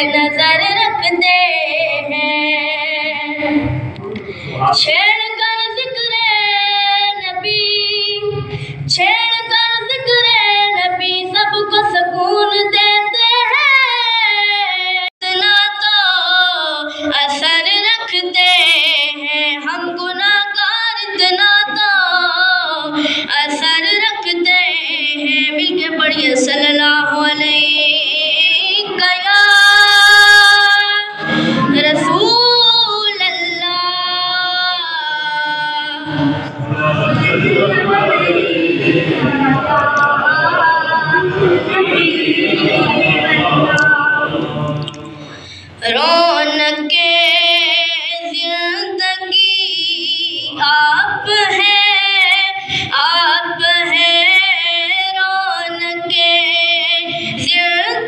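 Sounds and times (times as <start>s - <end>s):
boy reciting unaccompanied: 0.0s - 58.0s.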